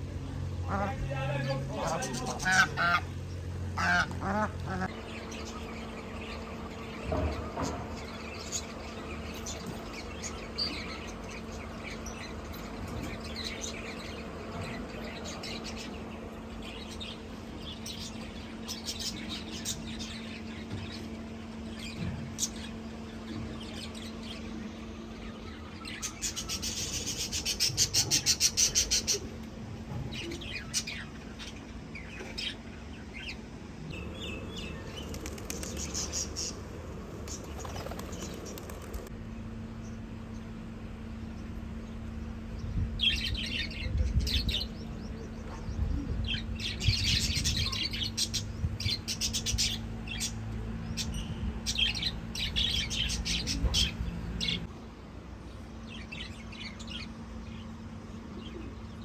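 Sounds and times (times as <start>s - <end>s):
birds chirping: 0.0s - 59.0s
steady low hum: 0.0s - 59.0s.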